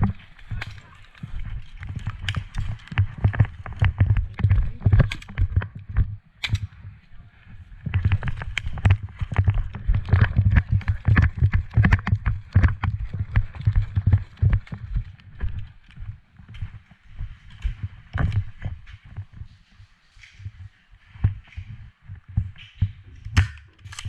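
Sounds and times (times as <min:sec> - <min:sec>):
heavy running footsteps: 0:00.0 - 0:06.2, 0:07.6 - 0:23.3.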